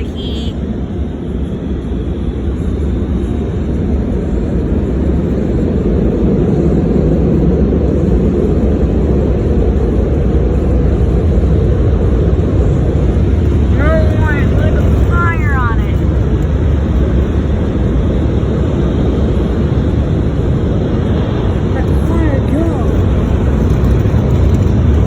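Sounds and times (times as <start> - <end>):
car wash blowers rushing air: 0.7 - 25.0.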